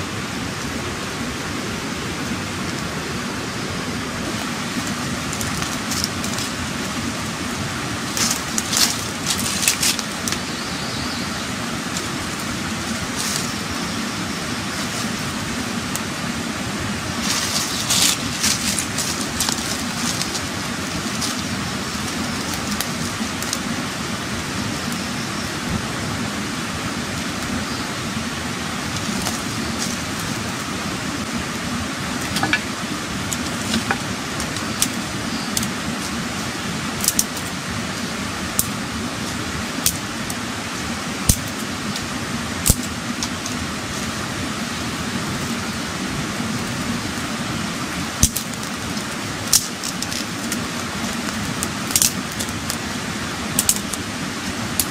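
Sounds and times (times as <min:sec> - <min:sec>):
steady background hiss: 0:00.0 - 0:54.9
wood fire crackling and popping: 0:04.1 - 0:10.5, 0:11.7 - 0:24.6, 0:28.5 - 0:54.9.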